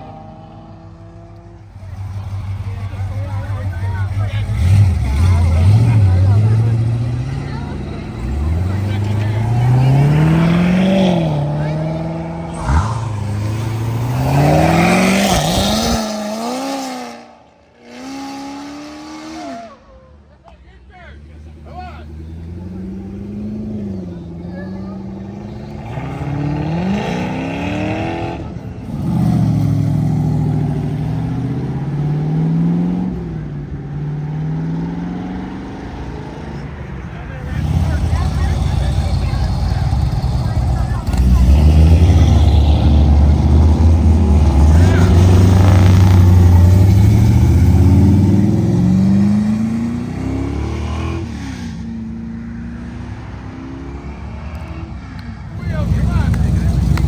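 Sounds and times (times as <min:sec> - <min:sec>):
car engine accelerating hard: 0:00.0 - 0:19.6, 0:21.2 - 0:57.0.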